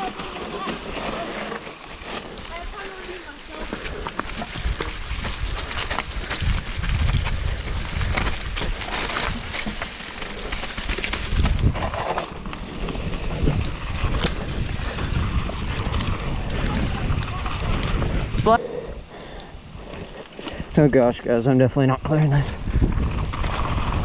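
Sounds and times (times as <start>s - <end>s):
mountain bike rattling and knocking: 0.0s - 18.6s, 22.6s - 24.0s
wind rumbling on microphone: 0.0s - 20.8s, 22.0s - 24.0s.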